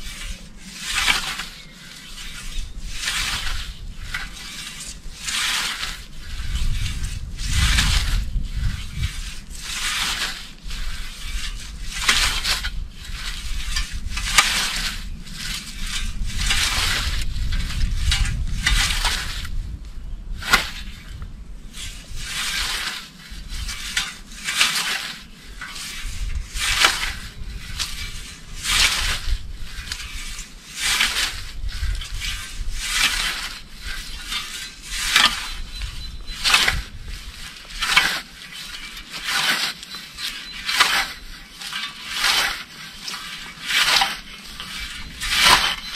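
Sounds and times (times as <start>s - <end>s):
scythe blade swishing through grass: 0.0s - 19.6s, 20.4s - 21.1s, 21.8s - 45.9s.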